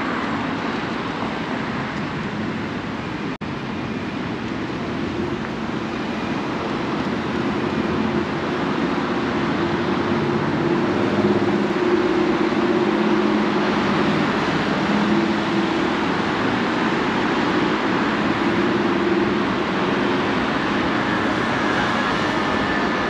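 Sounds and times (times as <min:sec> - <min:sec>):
low hum of engines: 0:00.0 - 0:23.0
tyre and road noise: 0:00.0 - 0:23.0.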